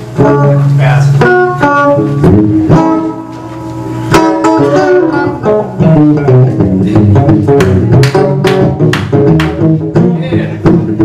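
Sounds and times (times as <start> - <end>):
electric guitar solo: 0.0 - 11.0
low backing music: 0.0 - 11.0.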